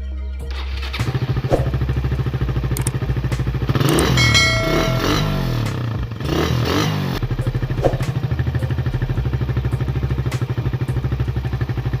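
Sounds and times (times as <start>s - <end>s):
motorcycle engine idling: 0.5s - 12.0s.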